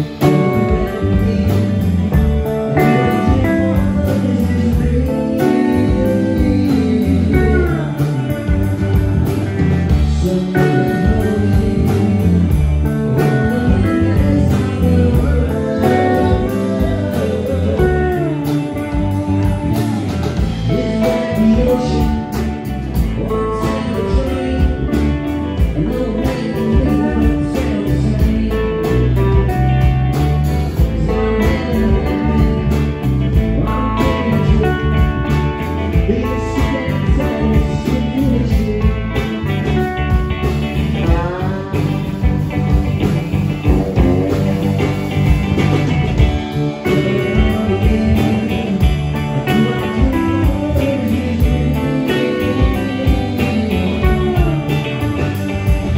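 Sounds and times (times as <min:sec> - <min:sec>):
drums: 0:00.0 - 0:55.9
electric guitars: 0:00.0 - 0:55.9.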